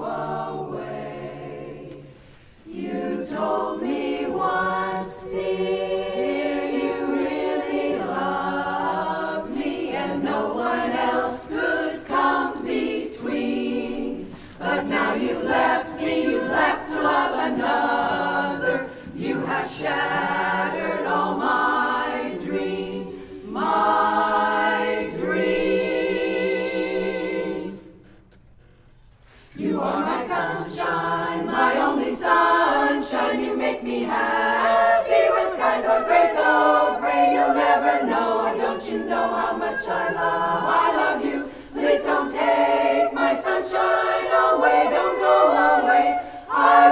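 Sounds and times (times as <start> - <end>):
women's chorus singing a cappella: 0.0 - 28.2, 29.3 - 46.9.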